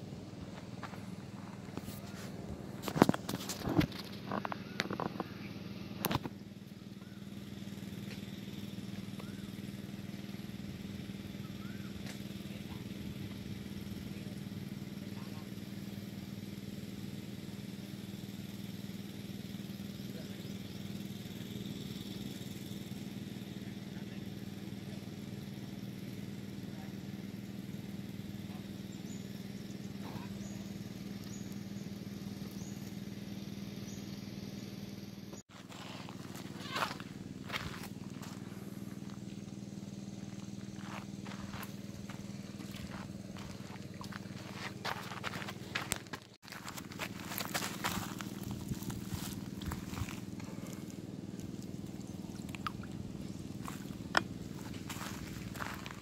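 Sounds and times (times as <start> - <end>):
motor droning: 0.0 - 56.0
small engine humming: 0.0 - 56.0.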